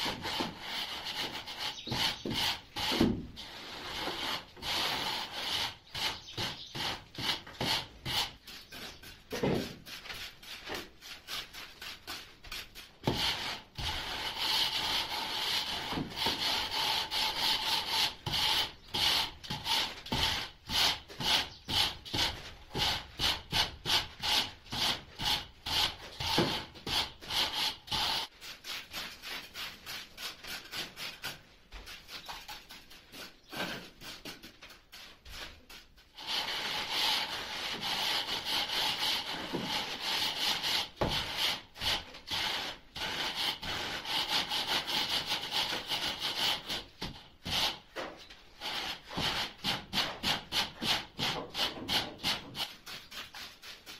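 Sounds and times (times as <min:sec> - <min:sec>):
metal straightedge scraping mortar: 0:00.0 - 0:31.4, 0:36.1 - 0:53.9.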